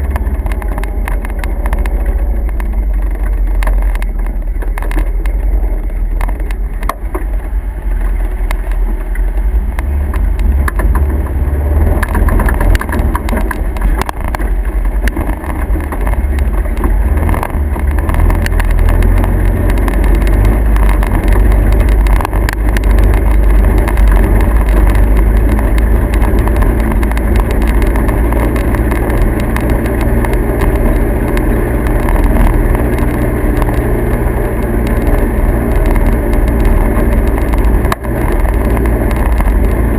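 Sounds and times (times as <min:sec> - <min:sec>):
motor vehicle rumbling: 0:00.0 - 0:39.9
rattles and clicks: 0:00.0 - 0:39.9.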